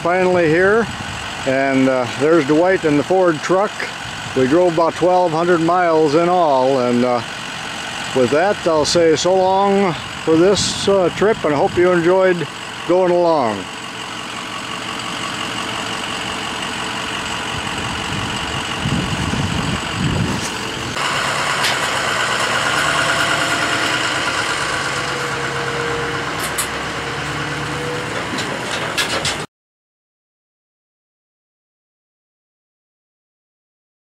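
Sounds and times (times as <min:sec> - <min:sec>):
pickup truck engine running: 0:00.0 - 0:29.5.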